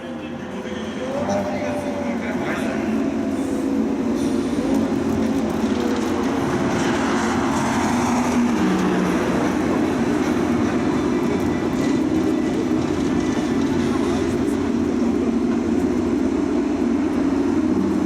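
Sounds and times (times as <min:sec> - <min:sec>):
car engine drone: 0:00.0 - 0:18.0
road and tyre noise: 0:00.0 - 0:18.0.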